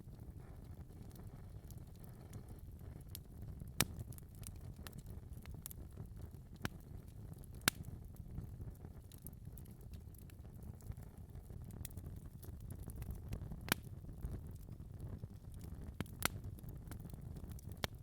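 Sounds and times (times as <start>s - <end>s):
fire popping and snapping: 0.0s - 18.0s
low rumble of flames: 0.0s - 18.0s.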